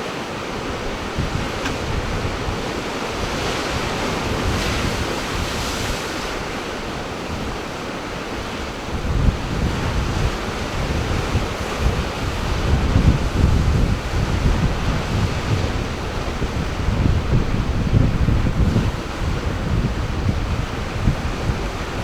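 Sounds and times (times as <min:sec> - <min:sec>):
ocean surf washing in: 0:00.0 - 0:22.0
wind buffeting microphone: 0:00.4 - 0:22.0.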